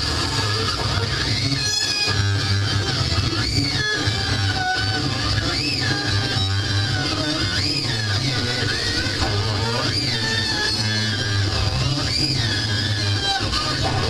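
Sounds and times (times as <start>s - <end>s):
distorted harsh noise music: 0.0s - 14.0s
high squealing tones: 0.0s - 14.0s.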